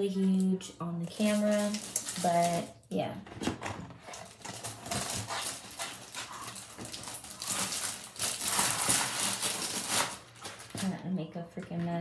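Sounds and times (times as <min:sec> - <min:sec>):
plastic packaging crinkling: 0:00.2 - 0:02.8, 0:04.0 - 0:11.1.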